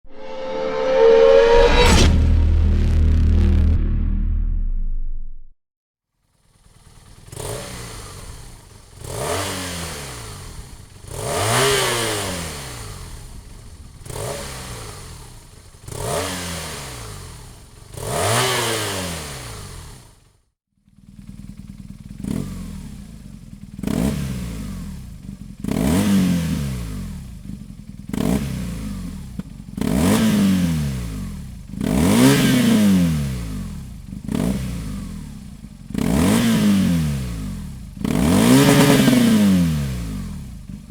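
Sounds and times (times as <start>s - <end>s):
motorcycle engine revving: 6.2s - 40.9s.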